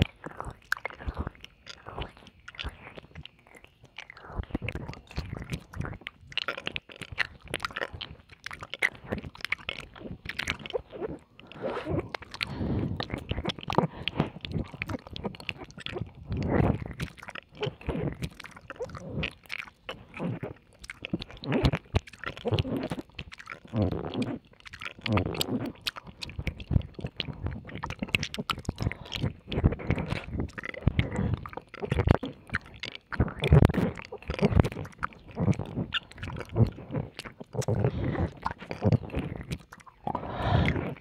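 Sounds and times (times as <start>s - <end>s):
wet mouth smacks and slurps: 0.0s - 41.0s.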